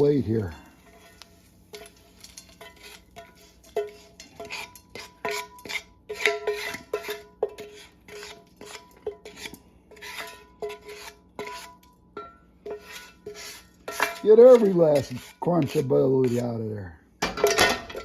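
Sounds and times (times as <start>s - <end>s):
spatula scraping a frying pan: 0.0s - 18.0s.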